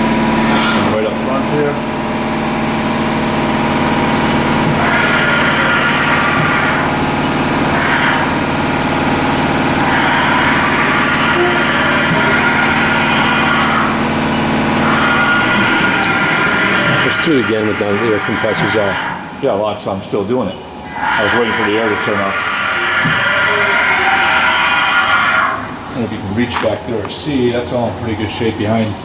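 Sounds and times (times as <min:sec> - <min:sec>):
machine axis servo whine: 0:00.0 - 0:28.9
air compressors humming: 0:00.0 - 0:29.0.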